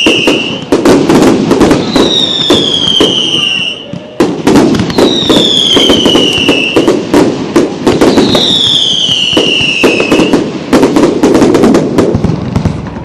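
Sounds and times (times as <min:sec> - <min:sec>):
falling firework whistles: 0:00.0 - 0:12.8
fireworks cracks and bangs: 0:00.0 - 0:13.0.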